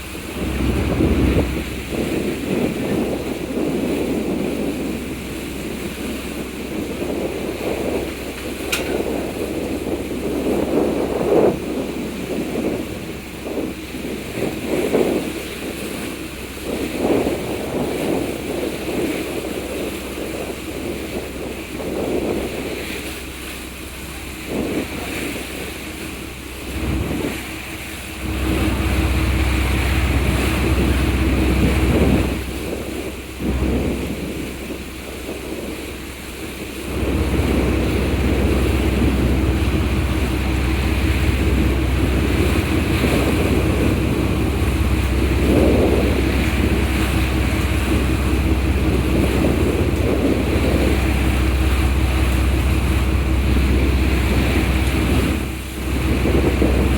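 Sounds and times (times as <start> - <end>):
sea water rushing past ferry: 0.0 - 56.9
wind buffeting microphone: 0.0 - 56.9.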